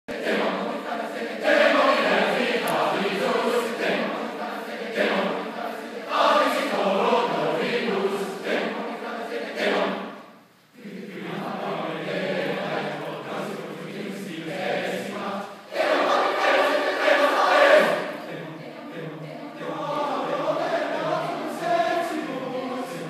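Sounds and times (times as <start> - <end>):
mixed choir singing: 0.1 - 23.0.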